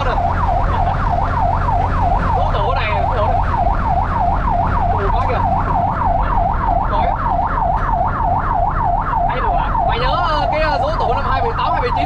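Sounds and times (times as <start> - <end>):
fire truck siren yelping: 0.0 - 12.0
road noise: 0.0 - 12.0
truck engine drone: 0.0 - 12.0.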